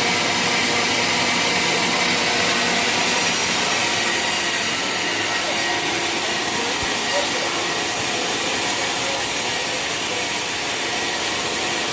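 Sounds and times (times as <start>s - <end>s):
saw cutting wood: 0.0s - 11.9s.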